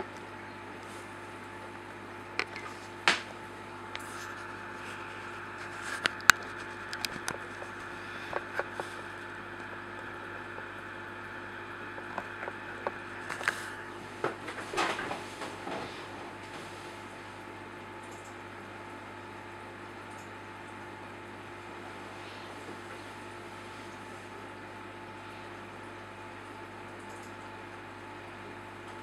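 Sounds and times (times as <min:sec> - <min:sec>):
low hum with hiss: 0:00.0 - 0:29.0.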